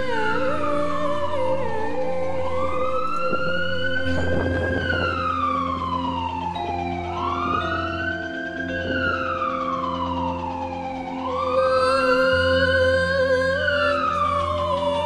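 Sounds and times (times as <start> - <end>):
ambulance siren wailing: 0.0 - 15.0.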